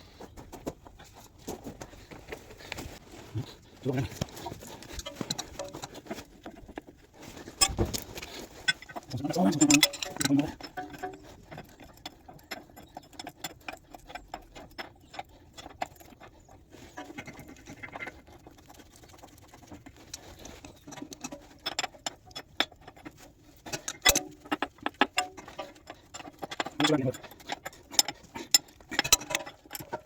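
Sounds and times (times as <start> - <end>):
metallic clicks and scrapes: 0.6 - 30.0.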